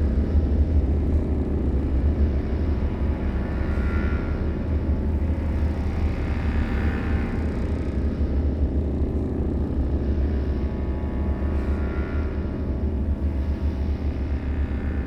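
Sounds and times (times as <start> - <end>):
deep low rumble drone: 0.0 - 15.0.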